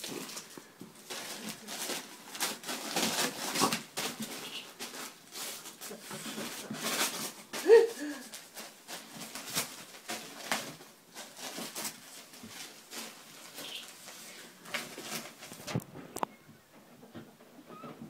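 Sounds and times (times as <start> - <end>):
wrapping paper crackling and tearing: 0.0 - 15.8.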